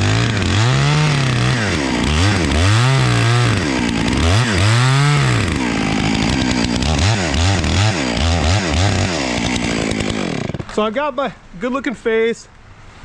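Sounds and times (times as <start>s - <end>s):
chainsaw cutting wood: 0.0s - 10.9s.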